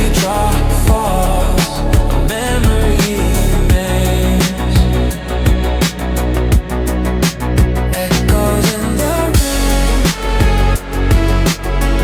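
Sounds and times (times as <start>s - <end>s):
synth-pop music: 0.0s - 12.0s.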